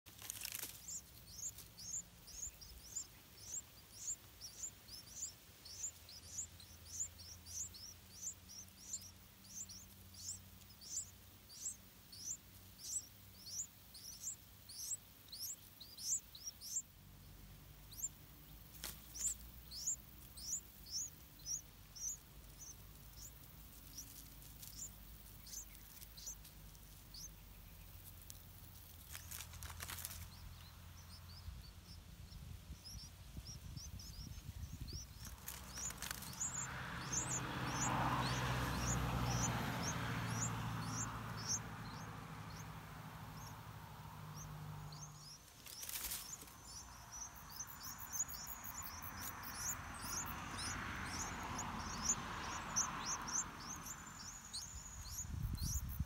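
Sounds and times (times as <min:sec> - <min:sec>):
nestlings peeping: 0:00.0 - 0:56.0.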